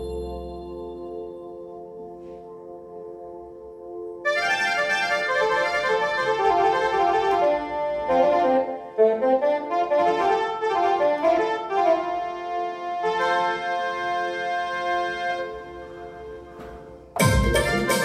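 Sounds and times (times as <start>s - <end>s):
electronic keyboard melody: 0.0s - 18.0s.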